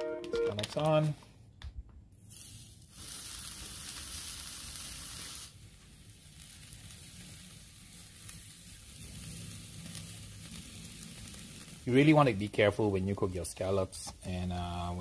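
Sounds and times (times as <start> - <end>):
scallops sizzling on a grill: 2.2 - 15.0.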